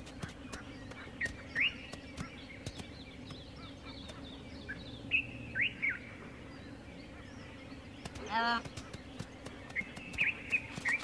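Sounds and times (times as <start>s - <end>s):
birds chirping: 0.0s - 11.0s
low background hum: 0.0s - 11.0s.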